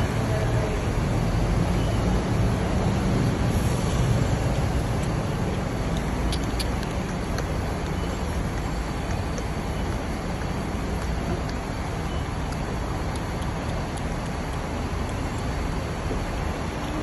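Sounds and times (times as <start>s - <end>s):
diesel bus engine rumbling: 0.0s - 17.0s.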